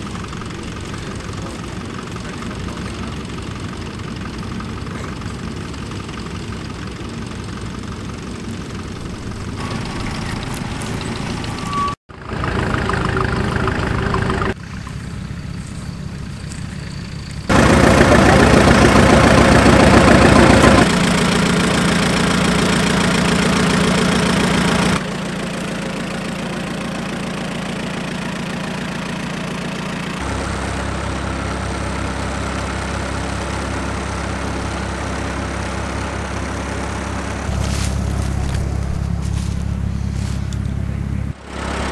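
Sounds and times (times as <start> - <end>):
tractor engines idling: 0.0 - 41.9.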